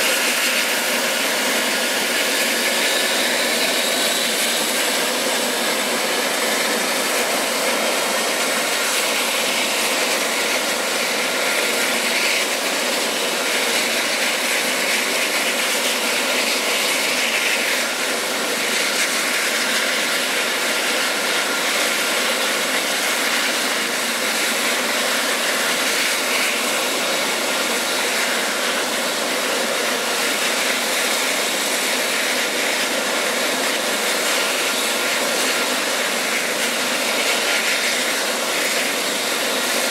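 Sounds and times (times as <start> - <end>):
helicopter rotor whirr: 0.0 - 39.9
helicopter turbine whine: 0.0 - 39.9.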